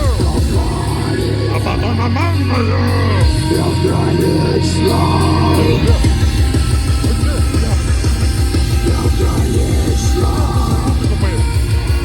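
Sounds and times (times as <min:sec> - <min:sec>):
loud punk rock band playing: 0:00.0 - 0:12.0.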